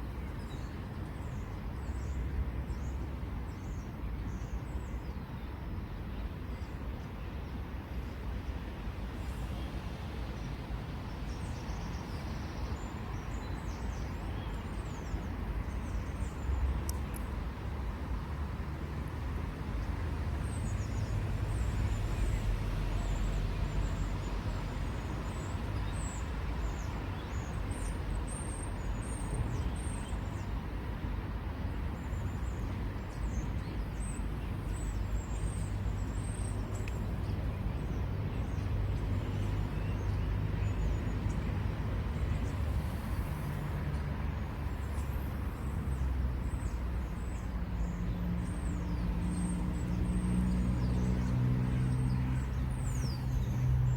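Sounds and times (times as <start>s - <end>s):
low rumble of road traffic: 0.0s - 53.9s.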